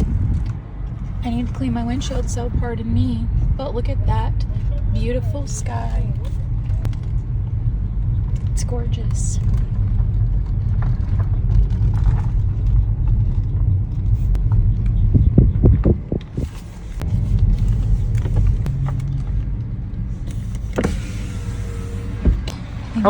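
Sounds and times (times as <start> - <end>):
car rumble inside cabin: 0.0 - 23.0.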